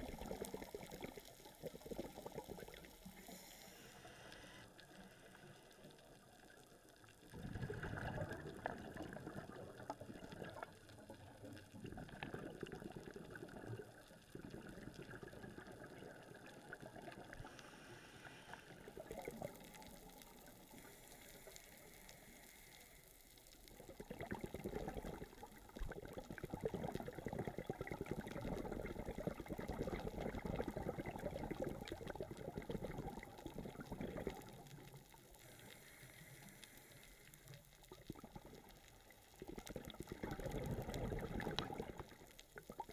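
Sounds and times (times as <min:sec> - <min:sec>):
underwater bubbles streaming: 0:00.0 - 0:42.9.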